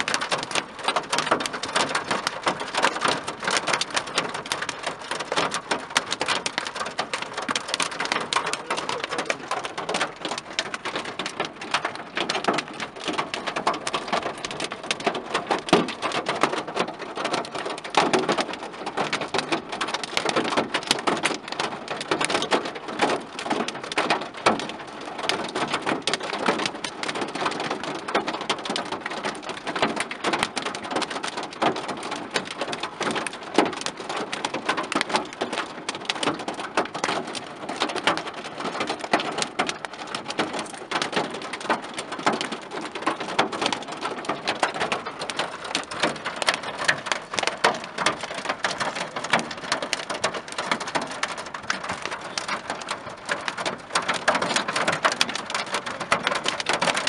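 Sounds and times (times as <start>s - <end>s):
hail and rain pelting a car: 0.0s - 57.0s.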